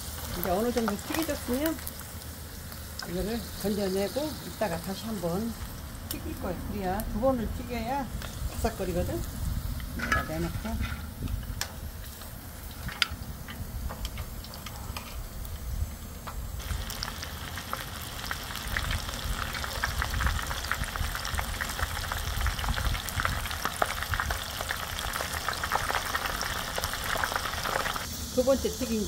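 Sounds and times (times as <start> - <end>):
crackling deep-frying sizzle: 0.0 - 29.0.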